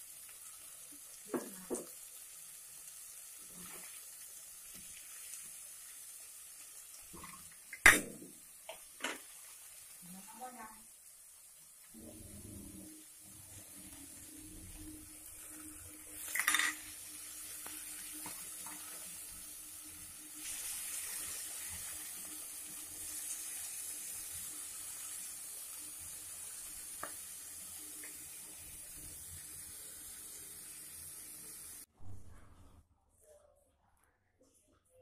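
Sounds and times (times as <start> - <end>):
food sizzling in hot wok: 0.0 - 31.9.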